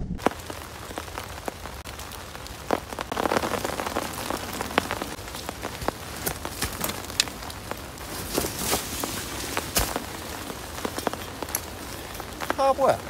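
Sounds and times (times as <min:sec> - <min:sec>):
plastic tarp pattering and crinkling: 0:00.2 - 0:13.0.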